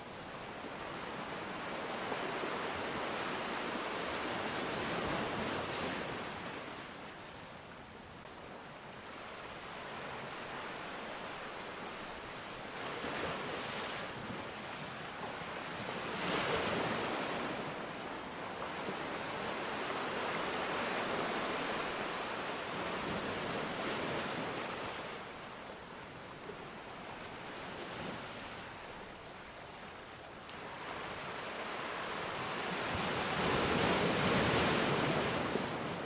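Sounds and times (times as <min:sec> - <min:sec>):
sea waves surging ashore: 0:00.0 - 0:07.3, 0:08.8 - 0:36.0.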